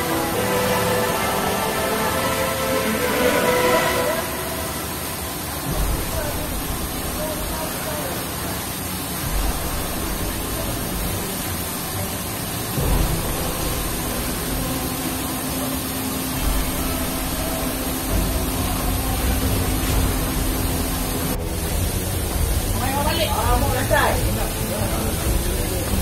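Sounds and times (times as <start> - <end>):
low engine rumble: 0.0 - 26.0
steady low hum: 0.0 - 26.0
water spray hissing: 0.0 - 26.0.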